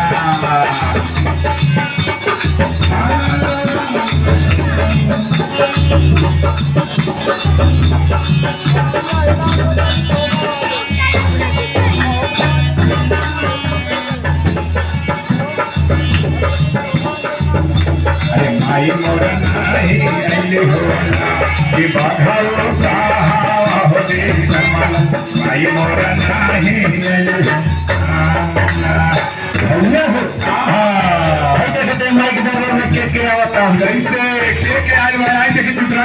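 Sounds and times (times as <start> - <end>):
deep drum beat: 0.0 - 36.0.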